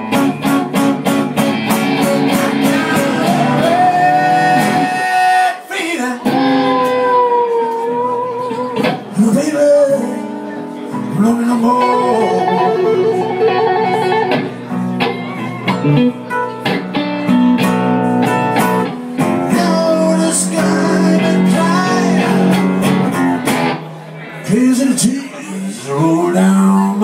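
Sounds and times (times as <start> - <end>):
acoustic guitar accompaniment: 0.0 - 27.0
electric blues guitar lead: 0.0 - 27.0.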